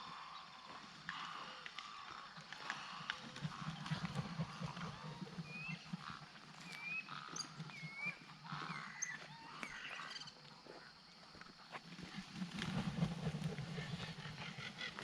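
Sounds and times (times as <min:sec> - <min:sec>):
background animal noise: 0:00.0 - 0:15.0.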